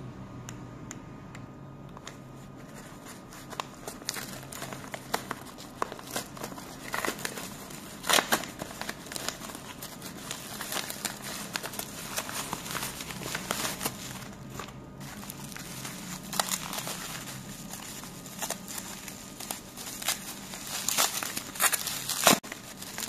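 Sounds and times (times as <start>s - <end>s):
bubble wrap crackling: 2.0s - 23.0s
padded mailer crinkling and tearing: 2.0s - 23.0s.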